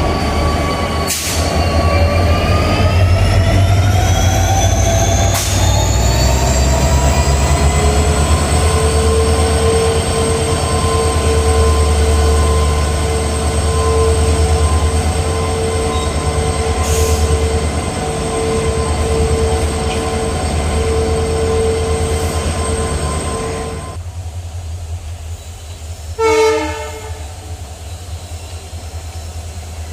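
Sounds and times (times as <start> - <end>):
diesel locomotive engine rumble: 0.0 - 29.9.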